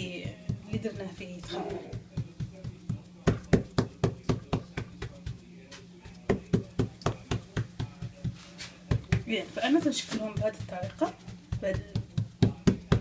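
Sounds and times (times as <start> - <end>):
palm patting bread dough: 0.0 - 13.0.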